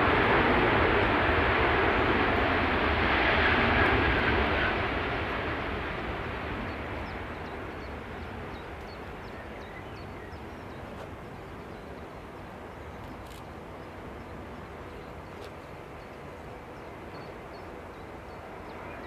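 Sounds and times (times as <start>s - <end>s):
jet engines rushing noise: 0.0s - 19.0s.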